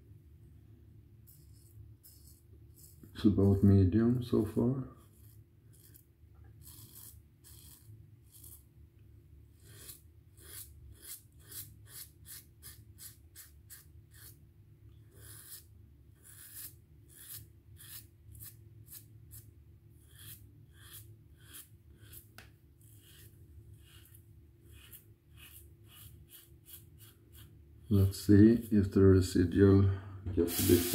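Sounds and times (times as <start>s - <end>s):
razor scratching on stubble: 1.3s - 3.8s, 4.4s - 8.7s, 9.5s - 14.4s, 15.0s - 29.0s.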